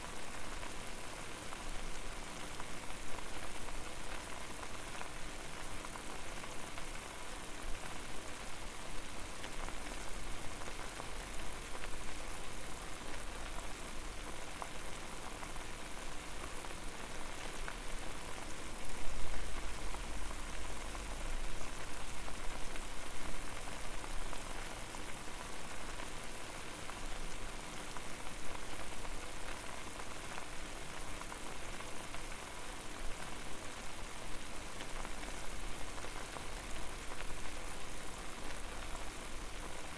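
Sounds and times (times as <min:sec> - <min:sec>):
water boiling and bubbling: 0:00.0 - 0:39.9.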